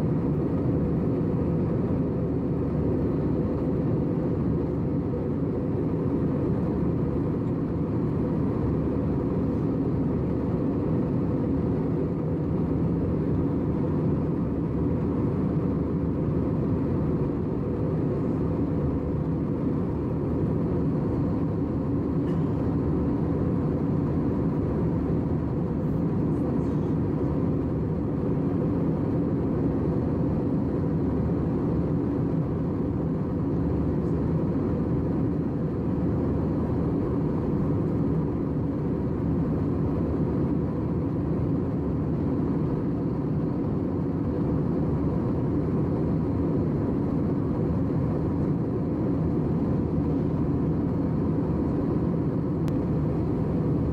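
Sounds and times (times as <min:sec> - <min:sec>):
engine drone and rushing air: 0:00.0 - 0:53.9.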